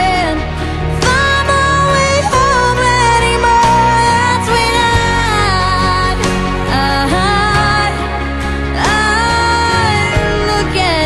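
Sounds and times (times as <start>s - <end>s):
person singing: 0.0s - 11.0s
pop ballad: 0.0s - 11.0s.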